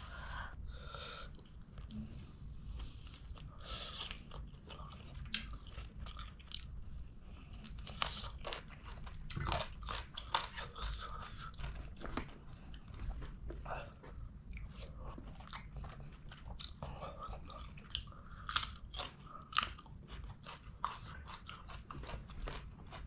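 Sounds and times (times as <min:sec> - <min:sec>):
chewing and crunching food: 0:01.3 - 0:23.0.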